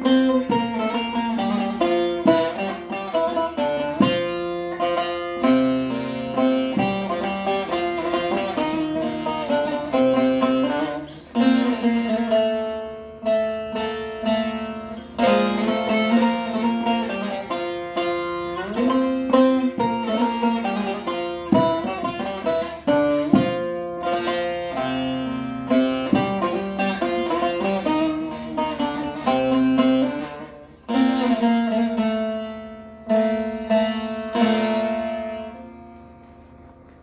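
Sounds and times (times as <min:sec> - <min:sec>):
plucked string instrument folk melody: 0:00.0 - 0:37.0.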